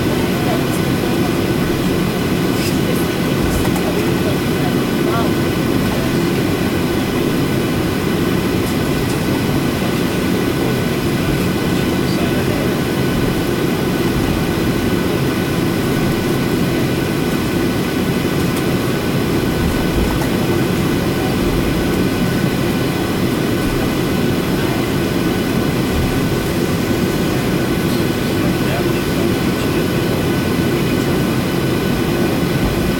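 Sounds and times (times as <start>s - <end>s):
high whining engine tones: 0.0s - 32.9s
jet engine rumble in cabin: 0.0s - 32.9s.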